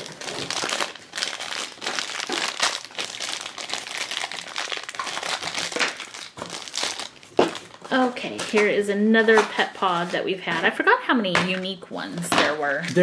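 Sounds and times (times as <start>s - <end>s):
wrapper crinkling: 0.0s - 11.7s.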